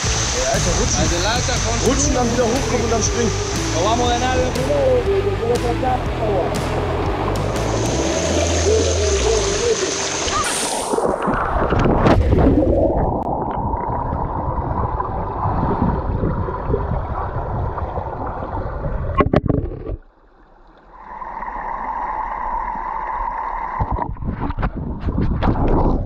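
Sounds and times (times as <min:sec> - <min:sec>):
muffled underwater water rushing: 0:00.0 - 0:26.0.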